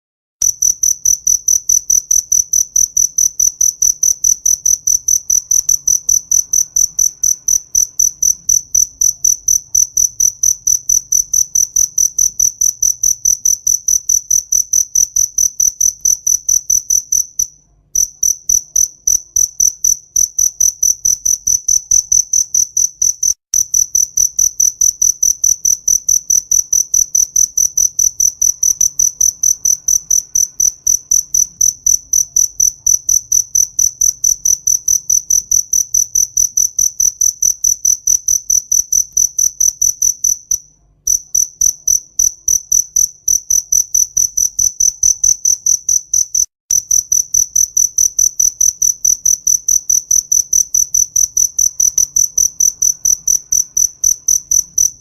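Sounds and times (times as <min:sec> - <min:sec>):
cricket chirping: 0:00.4 - 0:55.0.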